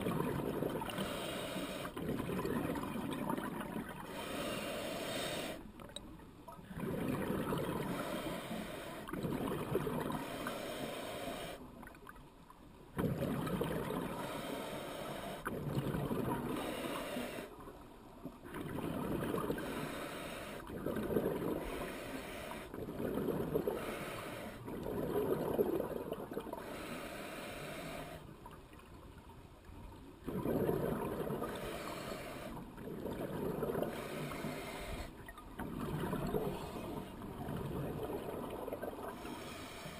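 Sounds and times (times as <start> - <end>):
underwater exhaled bubbles: 0.0 - 12.2, 12.9 - 28.9, 30.2 - 39.9.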